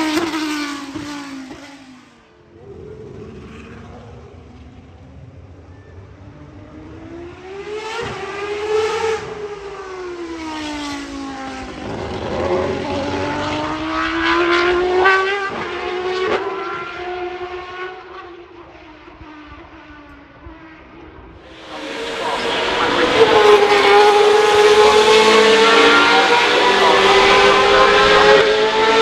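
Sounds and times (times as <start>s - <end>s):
racing car engines passing: 0.0s - 29.0s.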